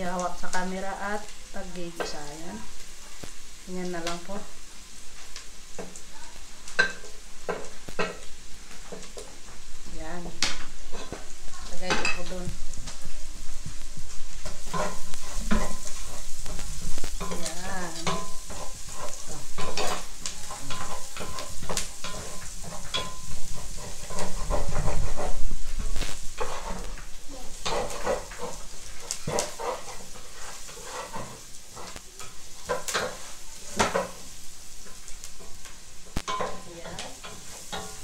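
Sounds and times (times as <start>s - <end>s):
onion and garlic sizzling: 0.0s - 38.0s
wooden spatula scraping a pot: 4.1s - 38.0s.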